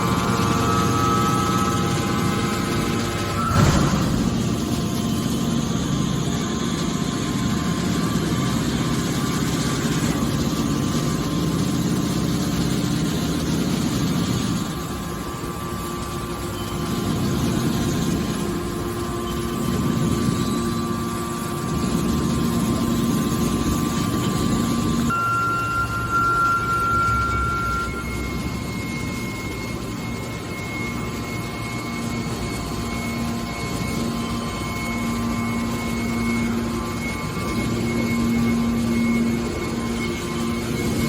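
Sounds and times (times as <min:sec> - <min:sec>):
hydraulic baler hum with whine: 0:00.0 - 0:41.0.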